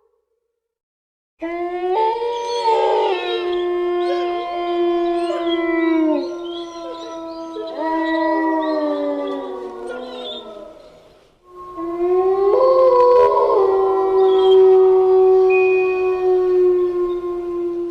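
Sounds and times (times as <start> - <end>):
wolves howling: 1.4 - 17.9.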